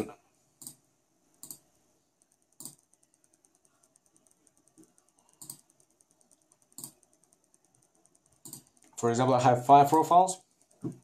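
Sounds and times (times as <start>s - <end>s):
faint fast ticking: 0.6s - 11.0s.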